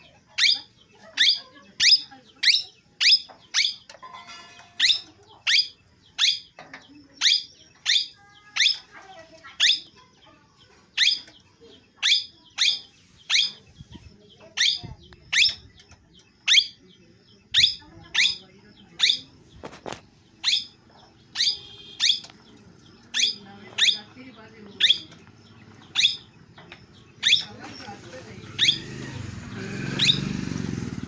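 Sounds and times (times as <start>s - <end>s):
parakeet chirping: 0.0s - 10.1s, 10.8s - 30.4s.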